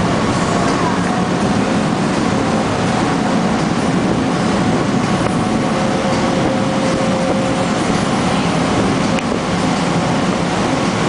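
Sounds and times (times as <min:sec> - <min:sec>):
boat motor running: 0:00.0 - 0:11.0
rushing water: 0:00.0 - 0:11.0
wind: 0:00.0 - 0:11.0.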